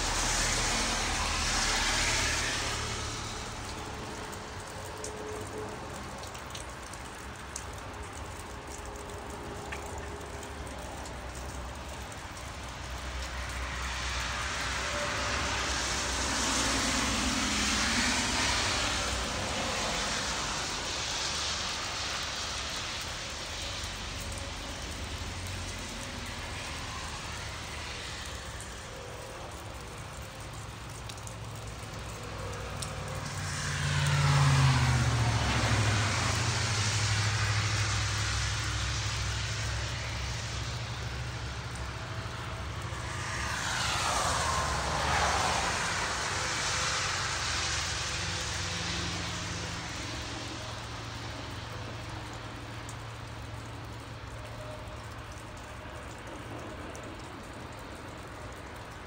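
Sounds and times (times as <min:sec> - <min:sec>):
rain hissing: 0:00.0 - 0:59.0
vehicles passing on wet road: 0:00.0 - 0:59.0.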